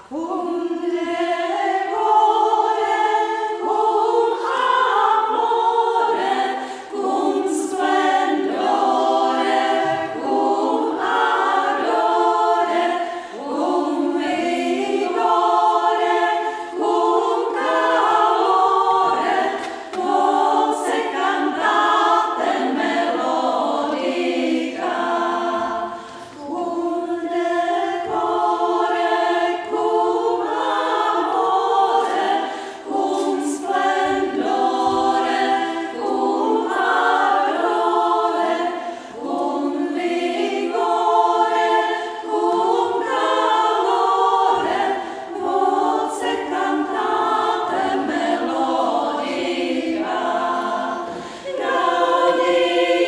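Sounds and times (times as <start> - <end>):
women's choir singing a cappella: 0.0 - 53.0.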